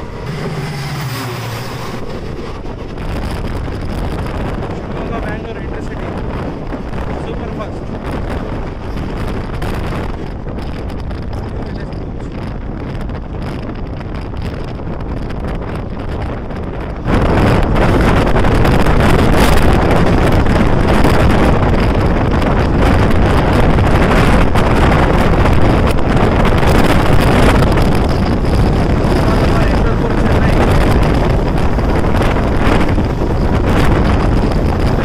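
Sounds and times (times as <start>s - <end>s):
express train running noise: 0.0s - 35.0s
wind buffeting microphone: 0.0s - 35.0s.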